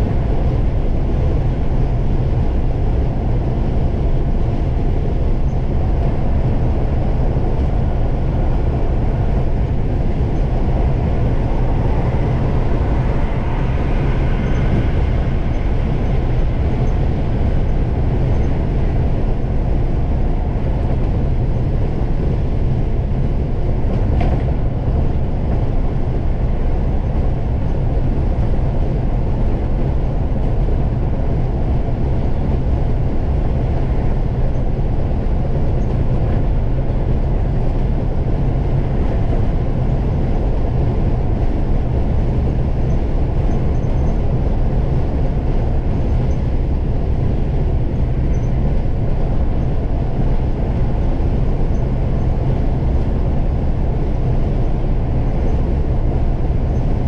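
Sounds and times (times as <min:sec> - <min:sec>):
coach cabin engine and tyre rumble: 0:00.0 - 0:57.0.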